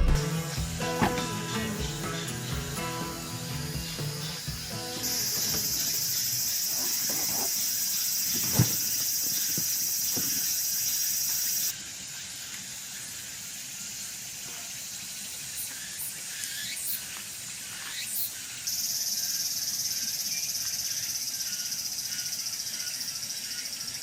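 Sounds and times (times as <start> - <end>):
insects chorus: 0.4 - 24.0.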